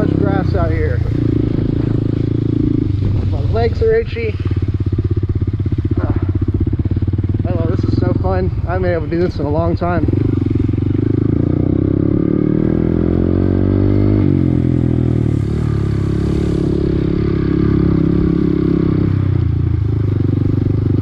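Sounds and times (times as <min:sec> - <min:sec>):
minibike engine revving: 0:00.0 - 0:21.0.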